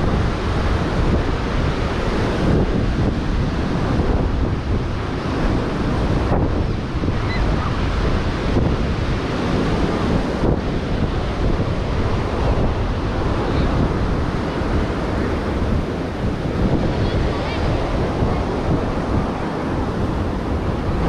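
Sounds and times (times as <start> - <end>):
ocean surf washing ashore: 0.0 - 21.0
wind buffeting microphone: 0.0 - 21.0.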